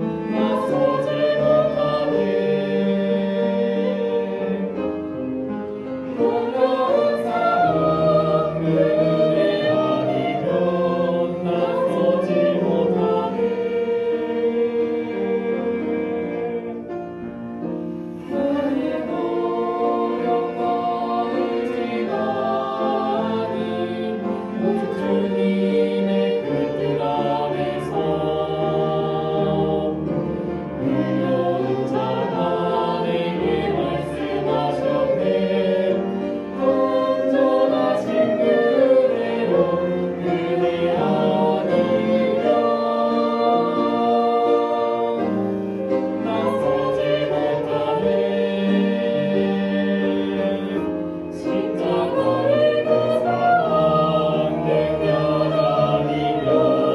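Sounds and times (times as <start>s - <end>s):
choir singing a hymn: 0.0s - 56.9s
orchestra: 0.0s - 56.9s.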